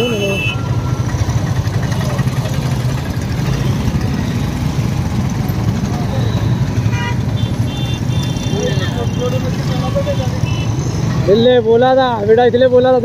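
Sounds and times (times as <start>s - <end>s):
motorcycle engine running: 0.0s - 11.5s
road noise: 0.0s - 13.0s.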